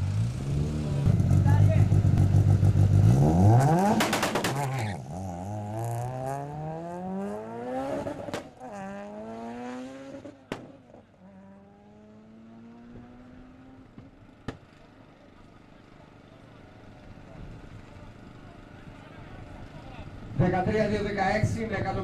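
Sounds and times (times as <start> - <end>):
car engine at full throttle: 0.0 - 21.0.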